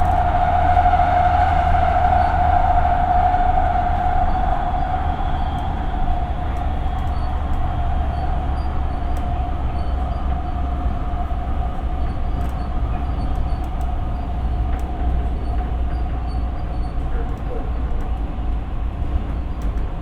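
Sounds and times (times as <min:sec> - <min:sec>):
light rail car running: 0:00.0 - 0:20.0.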